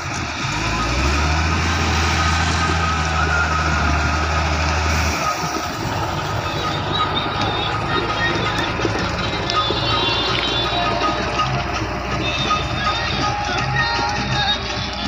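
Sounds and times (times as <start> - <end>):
diesel engine under load: 0.0 - 15.0
gravel crunching and scraping: 0.0 - 15.0.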